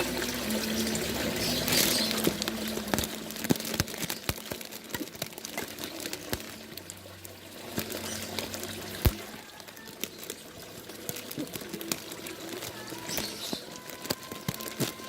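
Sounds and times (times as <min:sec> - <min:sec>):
small splashes: 0:00.0 - 0:15.0
water trickling and dripping: 0:00.0 - 0:15.0.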